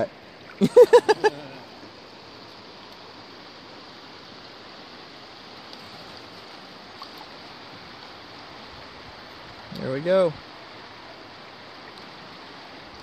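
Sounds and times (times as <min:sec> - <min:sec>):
creek water rushing over rapid: 0:00.0 - 0:13.0.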